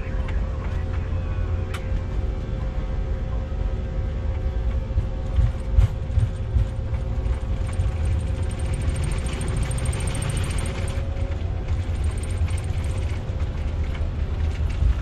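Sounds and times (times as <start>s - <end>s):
jet engines low rumble: 0.0s - 15.0s.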